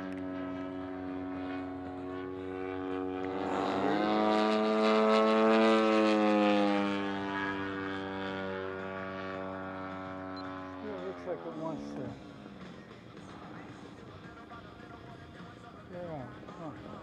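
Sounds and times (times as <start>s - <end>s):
model plane engine buzzing: 0.0s - 17.0s.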